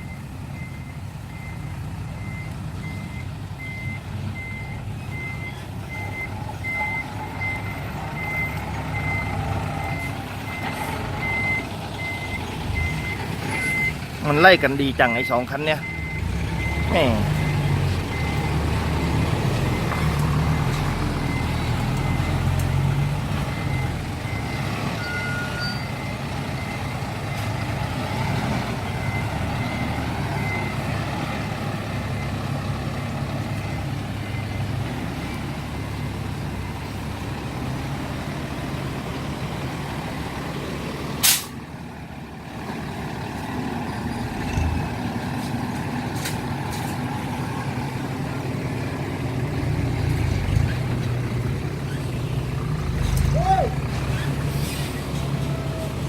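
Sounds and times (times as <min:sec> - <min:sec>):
road noise: 0:00.0 - 0:56.0
truck engines running: 0:00.0 - 0:56.0.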